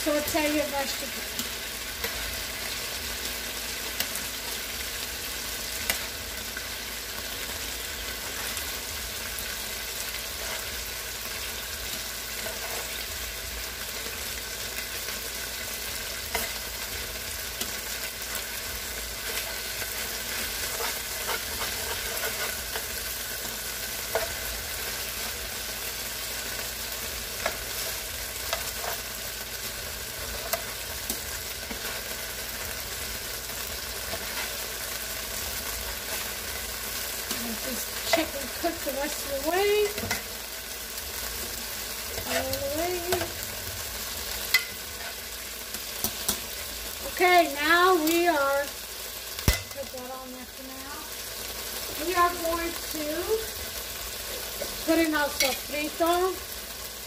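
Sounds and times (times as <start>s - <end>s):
fat sizzling in a hot pot: 0.0s - 57.0s.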